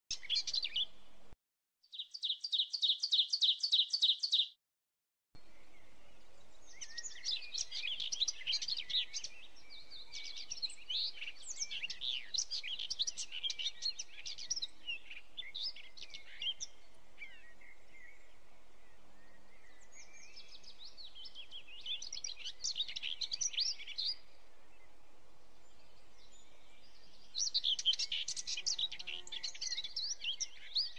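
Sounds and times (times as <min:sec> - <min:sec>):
small birds chirping: 0:00.1 - 0:01.0, 0:01.8 - 0:04.6, 0:05.4 - 0:30.9.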